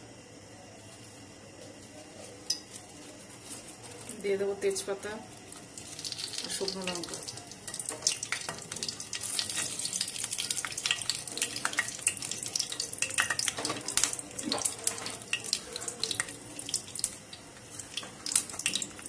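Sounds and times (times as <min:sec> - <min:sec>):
hot oil sizzling and popping: 0:02.3 - 0:03.0, 0:03.7 - 0:19.0.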